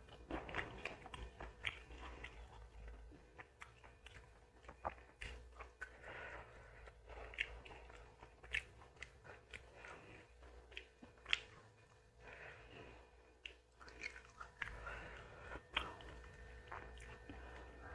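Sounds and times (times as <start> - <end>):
wet mouth sounds: 0.0 - 11.8, 13.3 - 17.9
chewing and biting a meal: 0.0 - 17.9.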